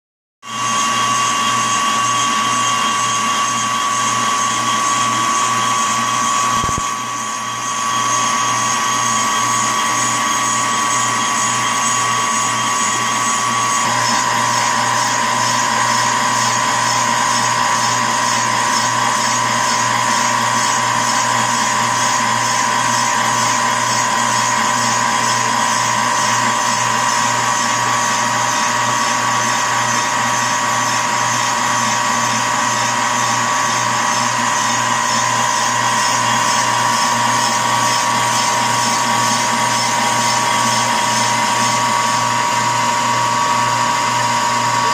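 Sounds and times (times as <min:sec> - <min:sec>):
metal lathe whining: 0:00.5 - 0:44.9.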